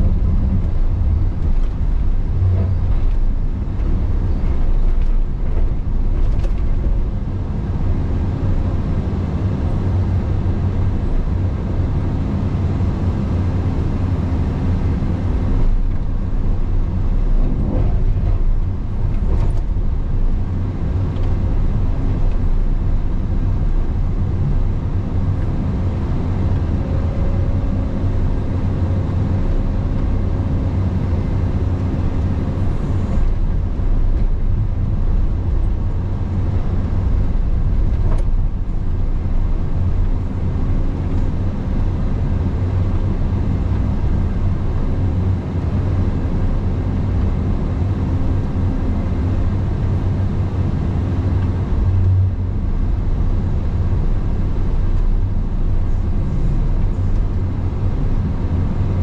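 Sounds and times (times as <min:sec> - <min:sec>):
excavator diesel engine humming: 0:00.0 - 0:58.9.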